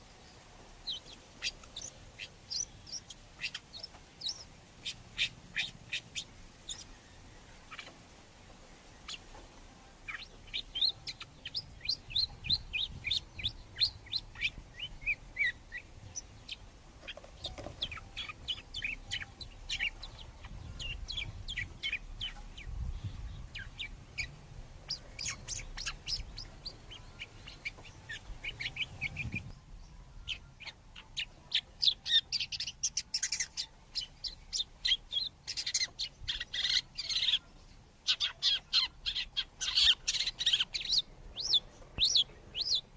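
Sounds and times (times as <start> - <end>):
birds chirping rapidly: 0.0 - 9.4, 10.0 - 42.9.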